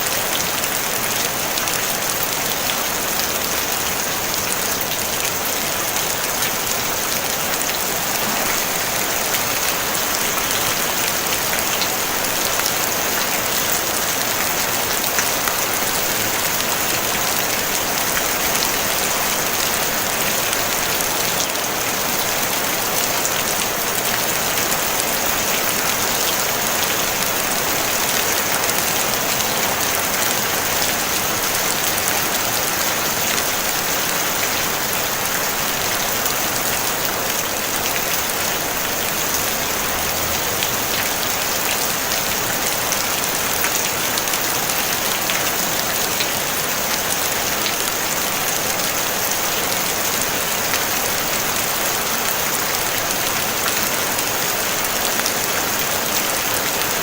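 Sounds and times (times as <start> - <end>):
rain drumming on a tin roof: 0.0 - 57.0.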